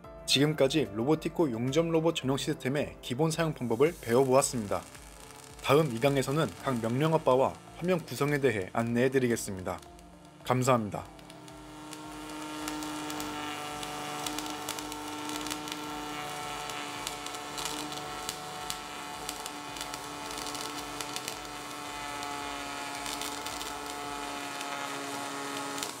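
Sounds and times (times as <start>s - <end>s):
welding arc crackling: 3.4s - 26.0s
steady hum: 3.8s - 26.0s.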